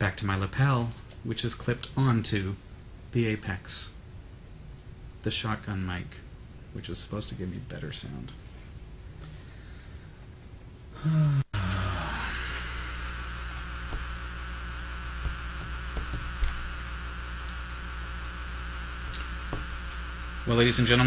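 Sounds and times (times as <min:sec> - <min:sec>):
electrical hum with buzz and hiss: 0:00.0 - 0:21.0.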